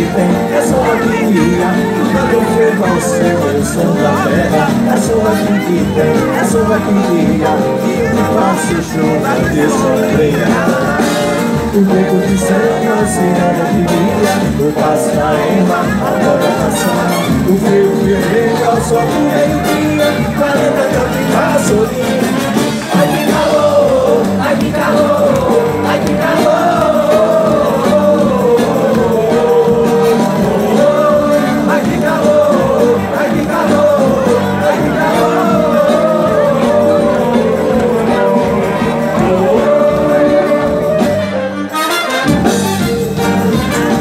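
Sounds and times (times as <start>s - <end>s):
electric bass: 0.0s - 41.7s
drum kit: 0.0s - 44.0s
guitars: 0.0s - 44.0s
live band playing loud music: 0.0s - 44.0s
person singing: 0.0s - 44.0s.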